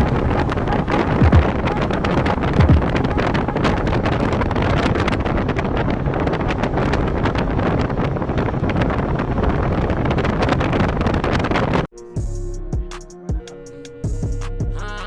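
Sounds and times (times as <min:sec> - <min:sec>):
low constant rumble: 0:00.0 - 0:13.3
wind buffeting microphone: 0:00.0 - 0:15.0.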